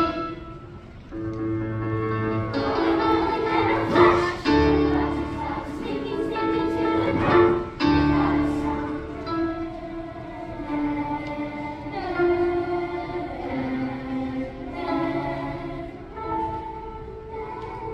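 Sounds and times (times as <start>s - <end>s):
children's choir singing: 0.0s - 17.9s
instrumental accompaniment: 0.0s - 17.9s.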